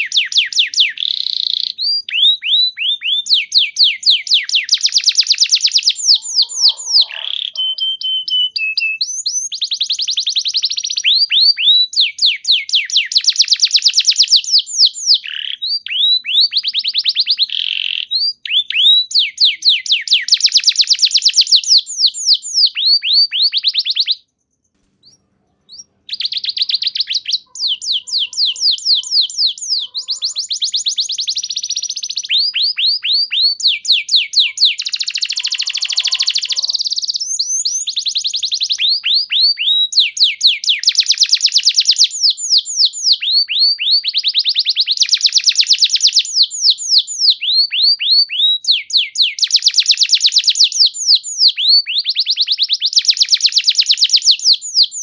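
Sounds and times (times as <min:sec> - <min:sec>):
canary singing rapid trills: 0:00.0 - 0:55.0.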